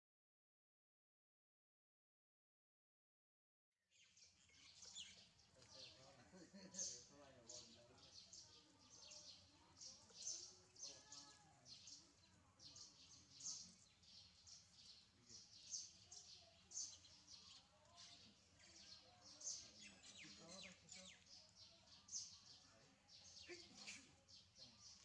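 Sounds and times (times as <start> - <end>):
birds chirping: 3.9 - 25.0.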